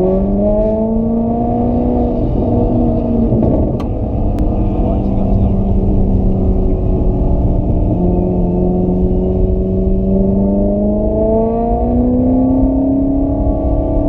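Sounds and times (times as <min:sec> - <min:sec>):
car engine accelerating: 0:00.0 - 0:14.0
road and wind noise: 0:00.0 - 0:14.0.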